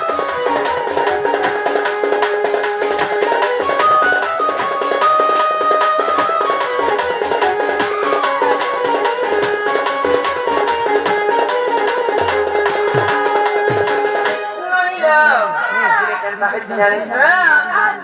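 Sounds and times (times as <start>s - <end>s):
fast steady drumming: 0.0s - 14.7s
melody of held notes: 0.0s - 14.7s.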